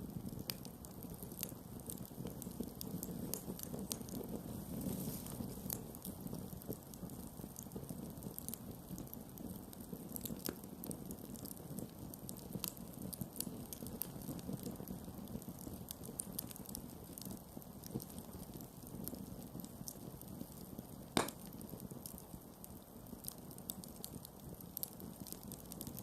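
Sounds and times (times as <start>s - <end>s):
campfire crackling and popping: 0.0s - 26.0s
low rumble of flames: 0.0s - 26.0s.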